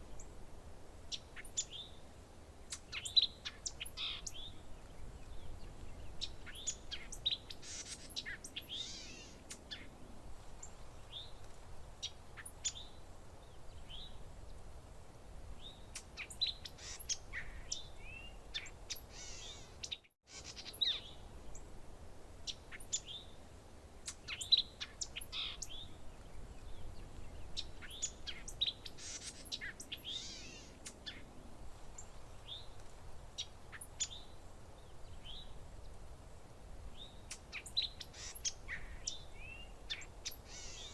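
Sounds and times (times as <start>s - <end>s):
small birds chirping: 1.1s - 10.0s, 10.6s - 14.7s, 15.5s - 21.7s, 22.4s - 36.1s, 36.8s - 40.9s.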